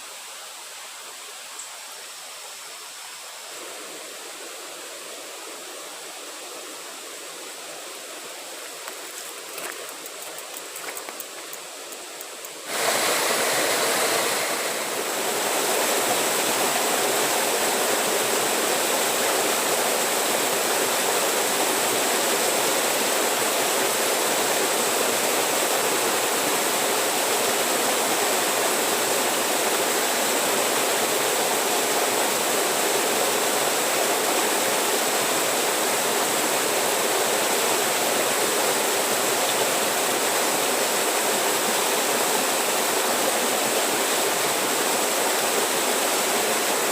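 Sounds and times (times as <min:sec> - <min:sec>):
flowing water rushing: 0:00.0 - 0:46.9.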